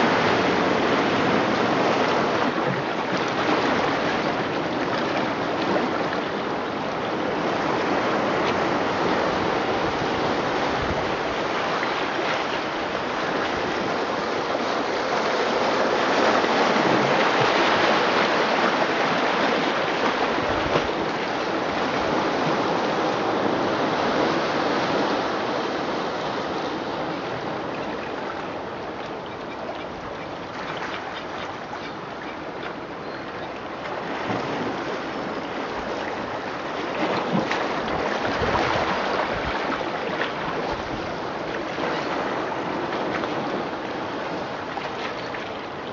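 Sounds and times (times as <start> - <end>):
ocean waves washing: 0.0 - 45.9.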